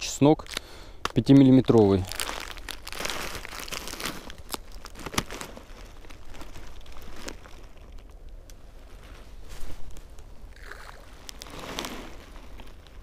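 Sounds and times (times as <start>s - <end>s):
sharp crackles: 0.3s - 13.0s
plastic bag crinkling: 0.4s - 13.0s.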